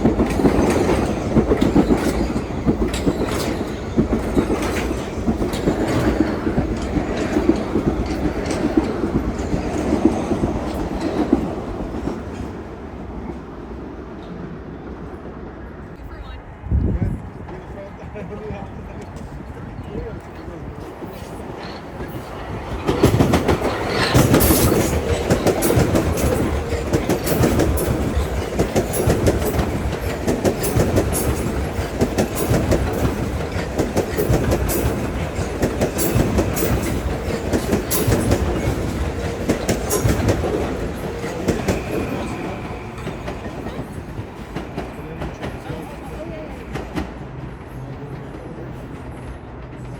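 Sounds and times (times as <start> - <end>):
train wheels clicking on rails: 0.0 - 14.5, 18.6 - 49.9
train rumble: 0.0 - 49.9.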